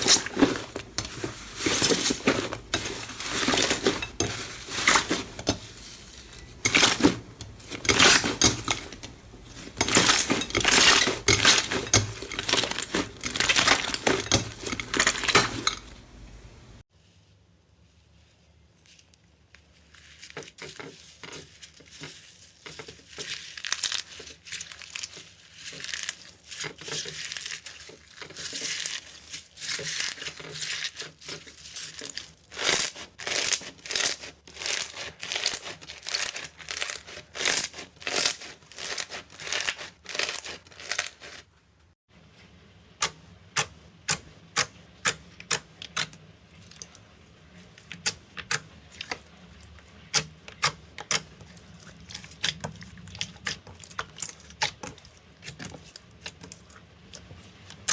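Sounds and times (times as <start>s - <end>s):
slime crackling and crinkling: 0.0s - 16.6s, 17.9s - 41.6s, 45.0s - 57.9s.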